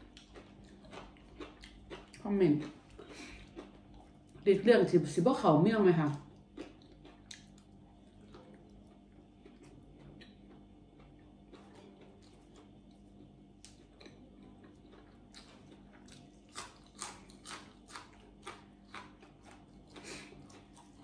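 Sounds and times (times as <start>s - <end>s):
chewing crisp greens: 0.0s - 21.0s
low room hum: 0.0s - 21.0s.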